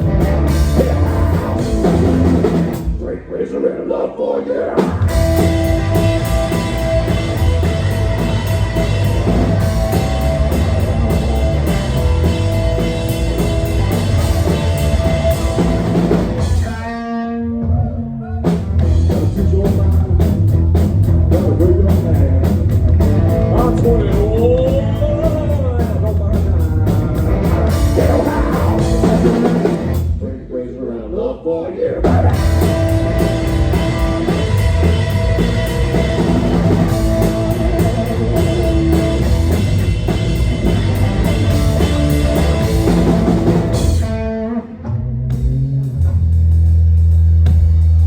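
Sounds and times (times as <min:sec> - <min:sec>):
live rock band playing: 0:00.0 - 0:03.0, 0:04.8 - 0:30.1, 0:32.0 - 0:48.0.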